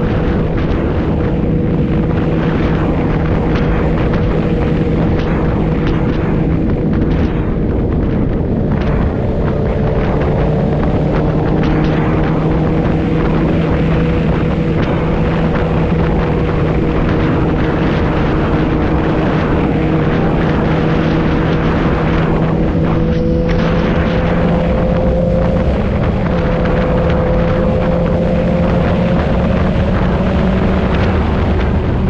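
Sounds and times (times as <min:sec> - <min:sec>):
motorcycle engine cruising: 0:00.0 - 0:32.0
wind and road noise: 0:00.0 - 0:32.0.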